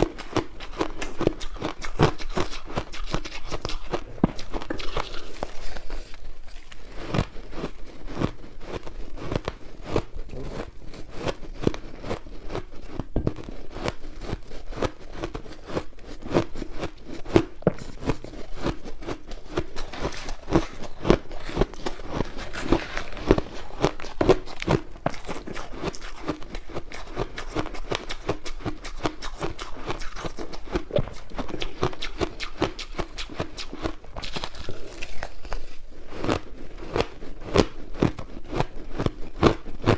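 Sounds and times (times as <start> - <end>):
crunching ice being chewed: 0.0 - 39.9.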